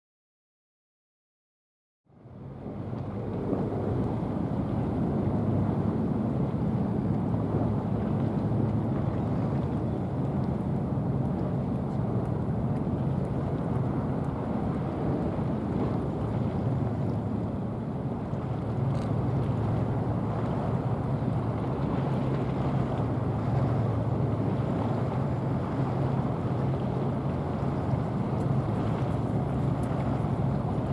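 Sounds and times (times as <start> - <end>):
boat engines rumbling: 2.6 - 30.9.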